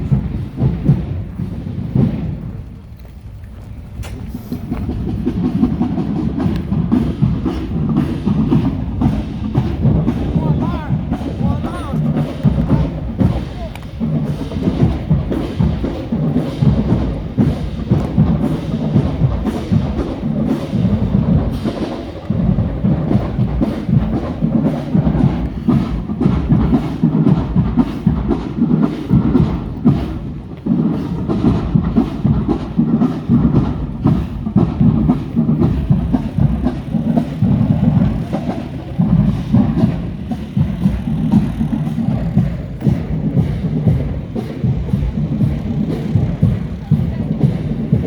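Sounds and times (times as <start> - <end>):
heavy drums beating: 0.0 - 2.8, 4.3 - 48.0
marching band playing: 0.0 - 2.9, 4.2 - 48.0.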